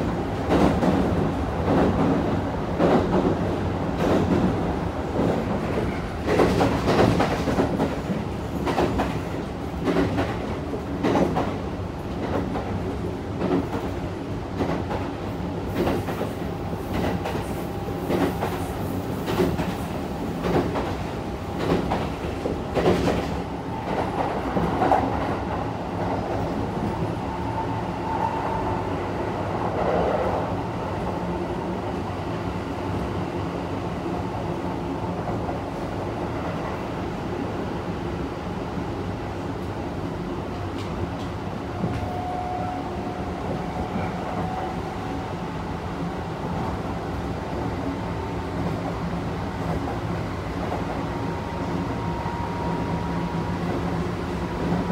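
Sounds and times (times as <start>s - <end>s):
steady train rumble: 0.0s - 54.9s.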